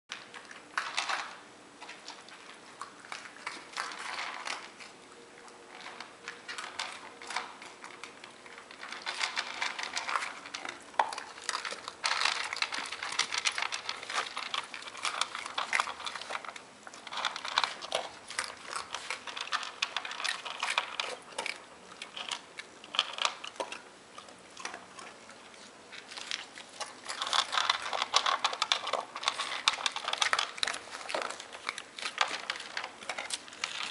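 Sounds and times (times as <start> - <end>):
dogs crunching dry kibble: 0.1 - 33.9.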